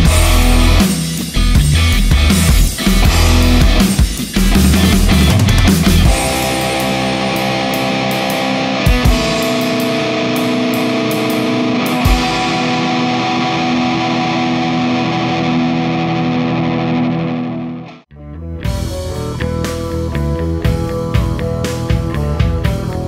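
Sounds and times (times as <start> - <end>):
distorted electric guitar chords: 0.0 - 23.0.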